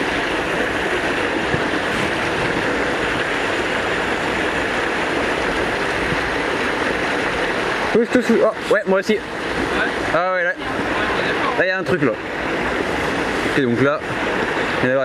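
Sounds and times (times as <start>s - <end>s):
water rushing over a weir: 0.0s - 15.0s.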